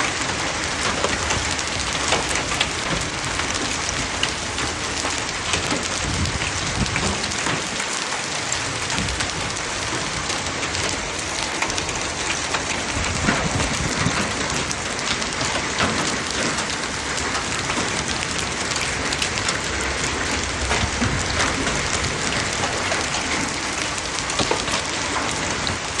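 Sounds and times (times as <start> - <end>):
hail falling: 0.0 - 26.0
hailstones striking surfaces: 0.0 - 26.0.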